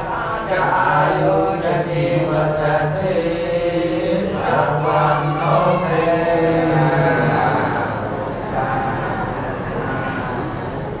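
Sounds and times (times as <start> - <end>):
monks chanting in unison: 0.0 - 11.0.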